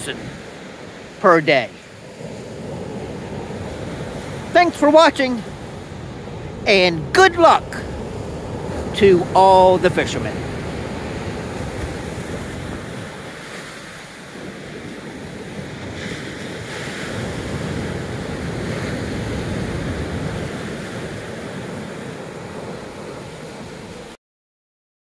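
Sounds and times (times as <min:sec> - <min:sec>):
surf breaking on a beach: 0:00.0 - 0:24.2
wind buffeting microphone: 0:01.8 - 0:24.0.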